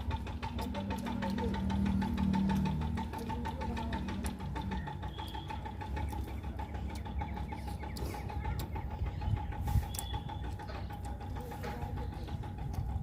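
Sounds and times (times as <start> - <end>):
low machine hum: 0.0 - 13.0
machine pulsing tick: 0.0 - 13.0.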